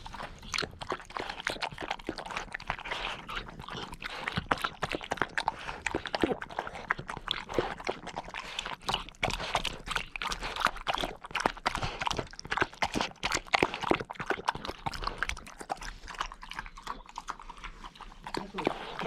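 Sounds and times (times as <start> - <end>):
puppy chewing with crunches: 0.0 - 19.0.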